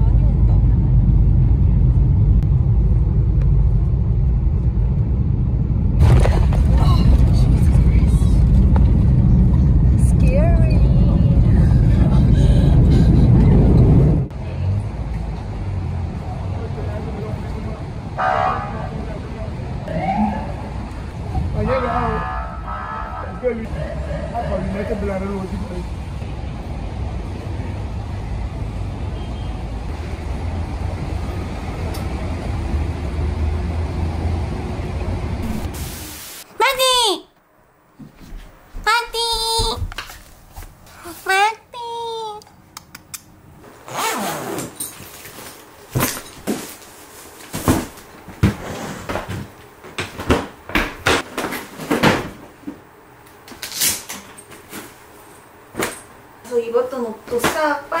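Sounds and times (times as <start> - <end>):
road vehicle rumbling: 0.0 - 36.5, 37.4 - 58.0.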